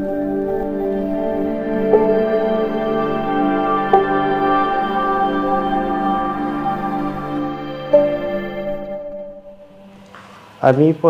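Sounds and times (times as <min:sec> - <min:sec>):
ambient new-age music: 0:00.0 - 0:11.0.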